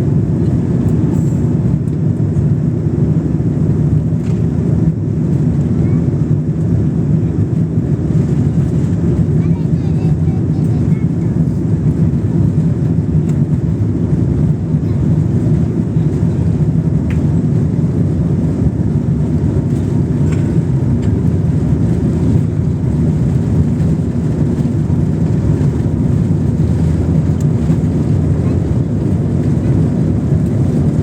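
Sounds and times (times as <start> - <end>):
jet engine and airflow drone: 0.0 - 31.0.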